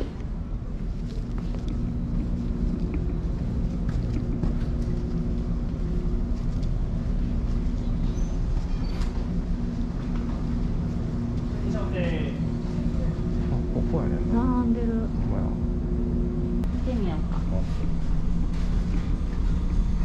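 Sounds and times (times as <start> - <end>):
ship engines droning: 0.0 - 20.0
steady hum tones: 0.0 - 20.0.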